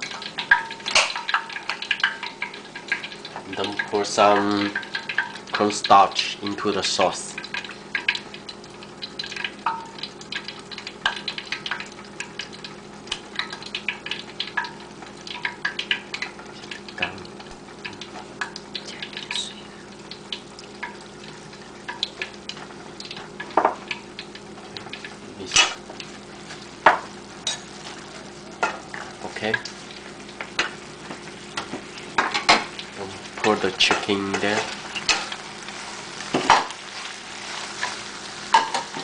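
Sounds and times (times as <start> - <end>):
sauce sizzling in a pan: 0.0 - 39.0.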